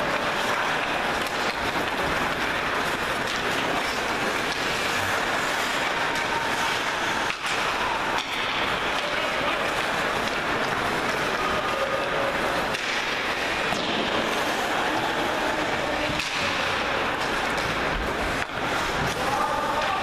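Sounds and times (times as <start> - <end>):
ice rink ambience hiss: 0.0 - 20.0.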